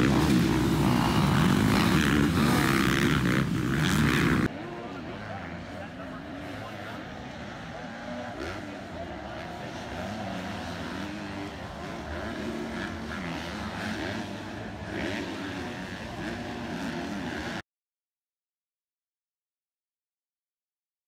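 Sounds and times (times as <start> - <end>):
motocross bike engines revving: 0.0 - 17.6.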